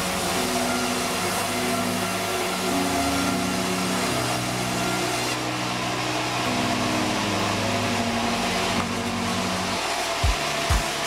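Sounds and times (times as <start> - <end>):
band saw whirring: 0.0 - 11.0
motor hum: 0.0 - 11.0.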